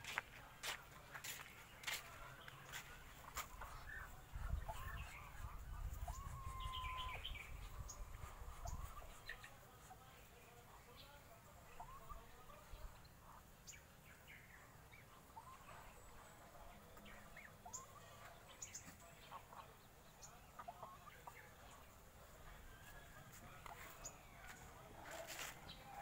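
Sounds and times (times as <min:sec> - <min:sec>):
chickens calling: 0:00.1 - 0:26.0.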